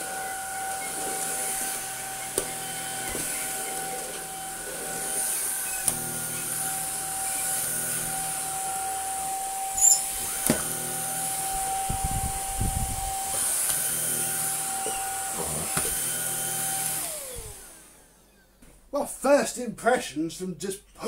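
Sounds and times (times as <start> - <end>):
vacuum cleaner motor whine: 0.0 - 18.6.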